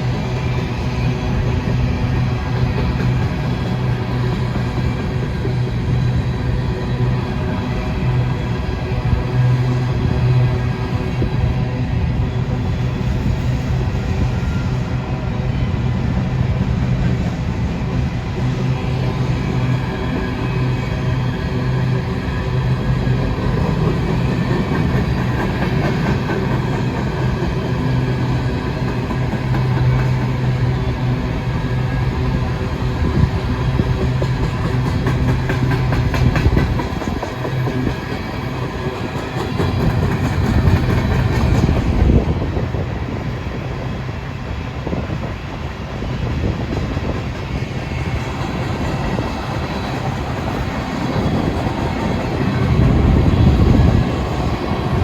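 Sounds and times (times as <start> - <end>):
diesel locomotive engine drone: 0.0 - 55.0
wheels rumbling on rails: 0.0 - 55.0.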